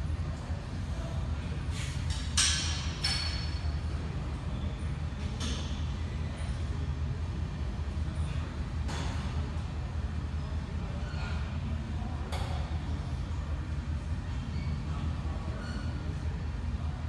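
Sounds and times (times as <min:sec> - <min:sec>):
low gym rumble: 0:00.0 - 0:17.0.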